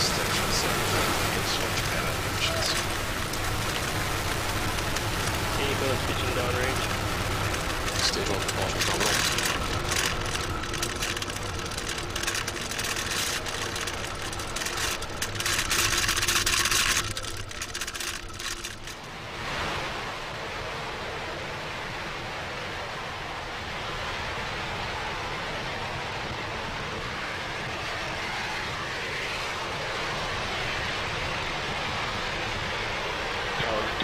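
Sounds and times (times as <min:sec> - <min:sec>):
rocket engines crackling rush: 0:00.0 - 0:34.0.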